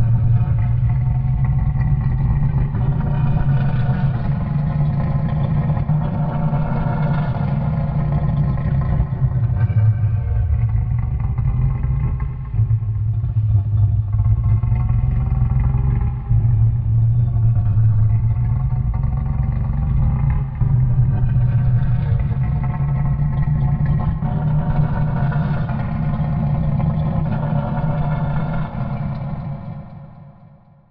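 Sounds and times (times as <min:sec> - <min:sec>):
deep buzzing creature growl: 0:00.0 - 0:30.6.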